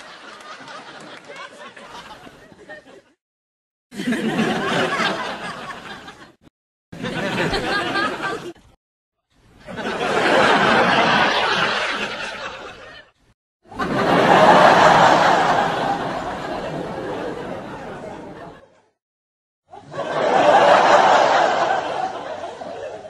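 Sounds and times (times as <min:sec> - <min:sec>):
studio audience laughter: 0:00.0 - 0:03.2, 0:03.9 - 0:08.8, 0:09.6 - 0:19.0, 0:19.7 - 0:23.0.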